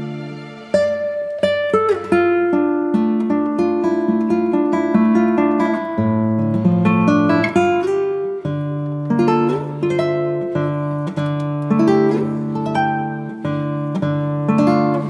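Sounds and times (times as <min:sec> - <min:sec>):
acoustic guitar melody: 0:00.0 - 0:15.0.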